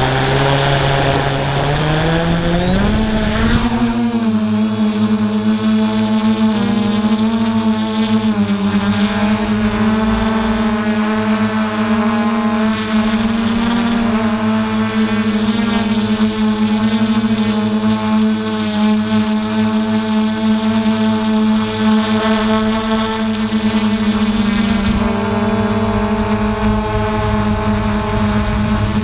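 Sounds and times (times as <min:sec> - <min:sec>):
quadcopter motors humming: 0:00.0 - 0:29.0.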